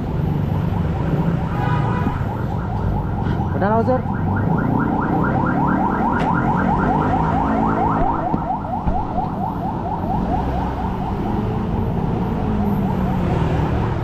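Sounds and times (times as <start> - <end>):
fire engine siren yelping: 0.0 - 14.0
truck engine rumble: 0.0 - 14.0.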